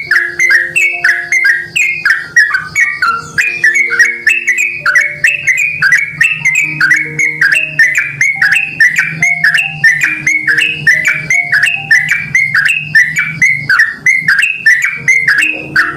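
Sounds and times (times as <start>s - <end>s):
bird singing bubbly whistled notes: 0.0s - 15.9s.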